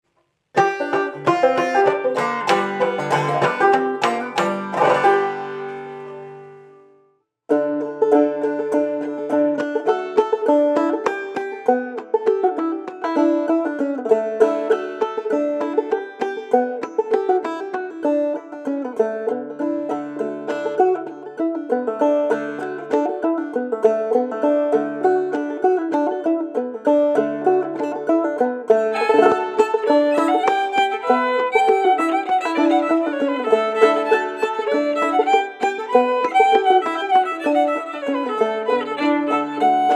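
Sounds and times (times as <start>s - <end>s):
banjo playing: 0.5s - 39.9s
fiddle holding long notes: 0.6s - 39.9s.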